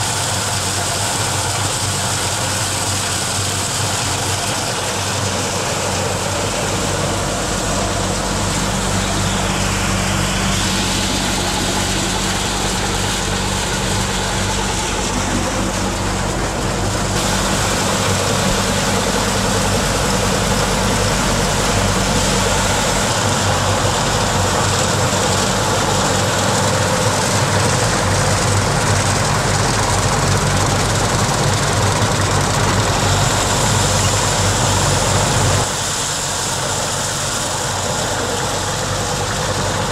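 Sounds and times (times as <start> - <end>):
machine humming: 1.2 - 39.9.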